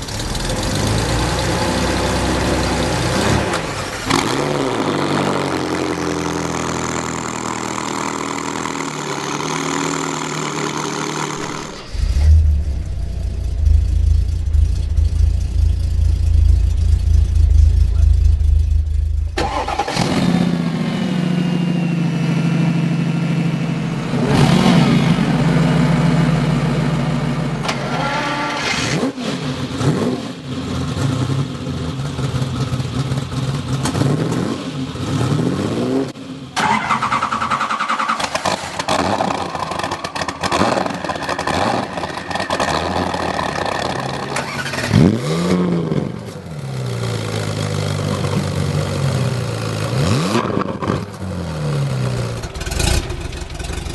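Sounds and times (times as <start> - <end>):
engine revving: 0.0 - 23.0, 24.1 - 31.5, 33.7 - 53.9.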